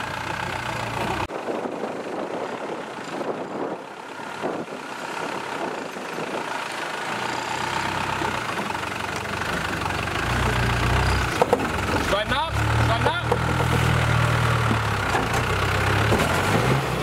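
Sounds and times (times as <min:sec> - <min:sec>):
vehicle engine running under load: 0:00.0 - 0:17.0.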